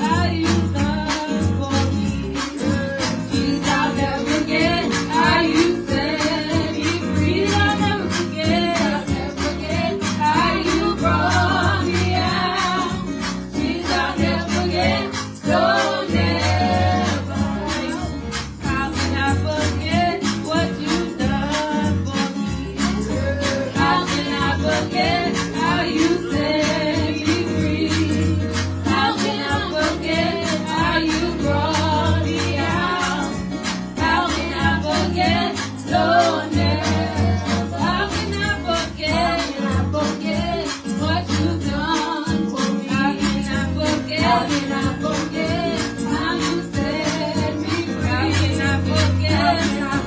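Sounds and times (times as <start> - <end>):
instrumental accompaniment with beat: 0.0 - 50.0
women singing gospel song: 0.0 - 50.0.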